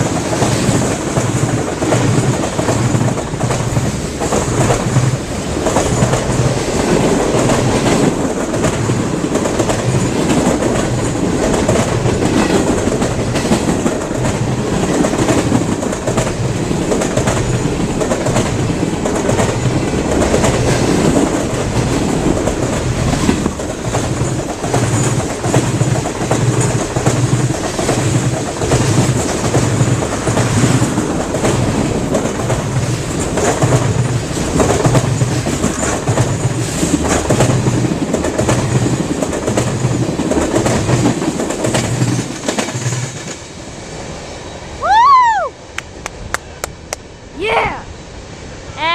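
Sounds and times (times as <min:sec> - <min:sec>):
train wheels clicking over rail joints: 0:00.0 - 0:43.6.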